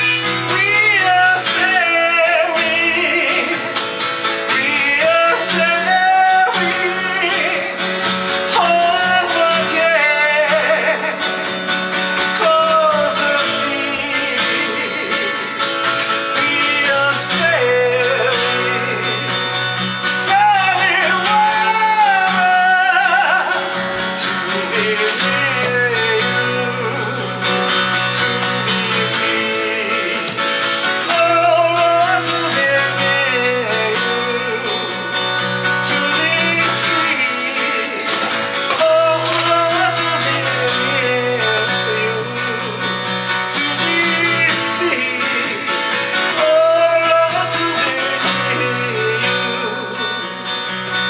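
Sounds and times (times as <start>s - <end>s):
person singing: 0.0s - 51.0s
plucked and strummed guitar: 0.0s - 51.0s.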